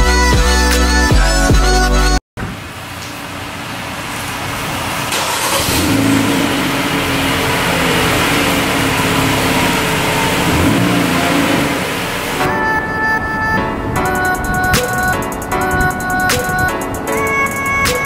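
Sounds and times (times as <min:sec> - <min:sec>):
car engine humming: 0:02.5 - 0:18.0.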